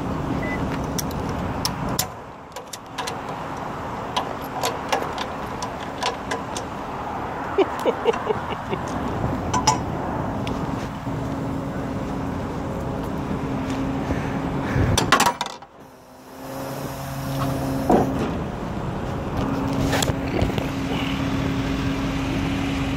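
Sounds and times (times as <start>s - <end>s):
truck engine idling: 0.0s - 15.1s, 15.8s - 22.9s.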